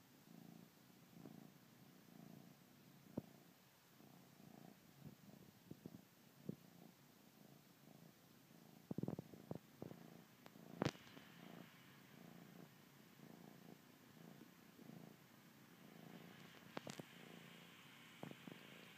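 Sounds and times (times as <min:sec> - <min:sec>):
kitten purring: 0:00.0 - 0:18.9.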